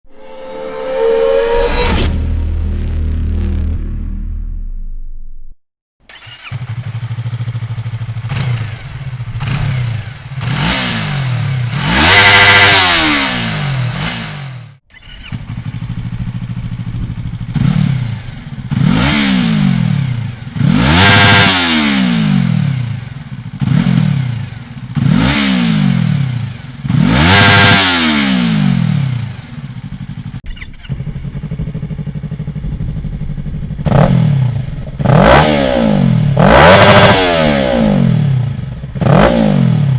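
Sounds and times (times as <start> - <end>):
motorcycle engine revving: 6.0 - 39.9.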